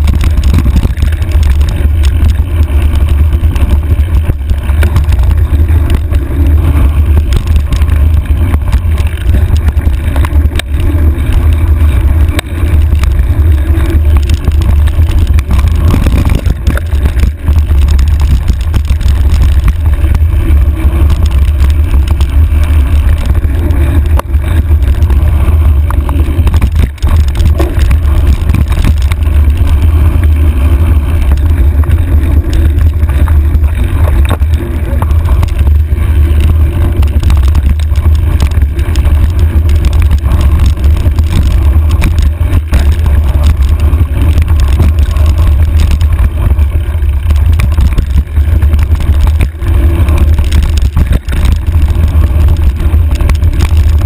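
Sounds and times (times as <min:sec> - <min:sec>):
low rumble of riding noise: 0:00.0 - 0:54.0.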